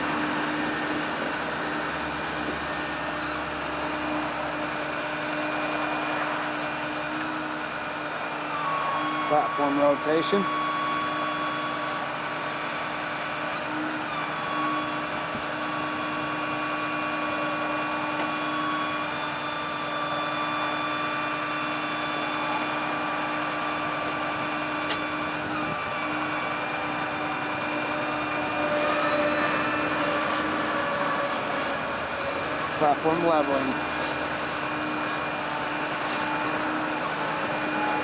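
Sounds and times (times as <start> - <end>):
hydraulic system whine: 0.0 - 38.0.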